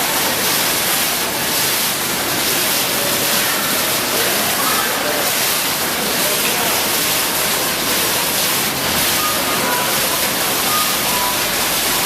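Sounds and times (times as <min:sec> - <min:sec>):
water pouring down: 0:00.0 - 0:12.0.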